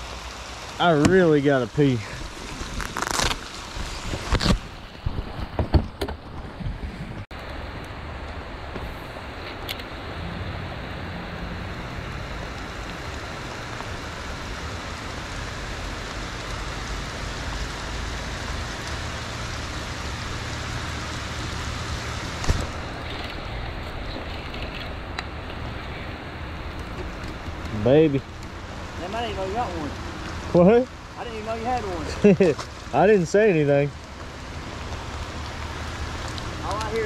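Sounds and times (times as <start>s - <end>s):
rain falling on water and boat: 0.0s - 37.0s.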